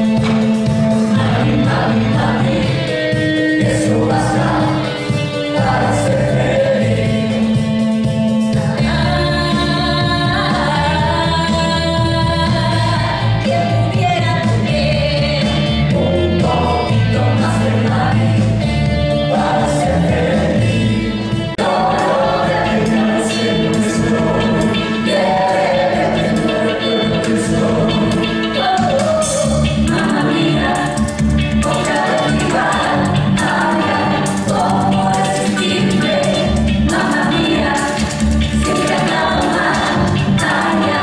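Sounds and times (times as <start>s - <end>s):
ensemble singing with instruments: 0.0s - 41.0s.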